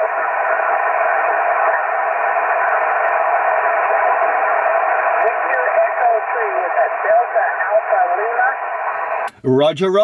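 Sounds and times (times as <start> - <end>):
radio band noise hiss: 0.0 - 9.4.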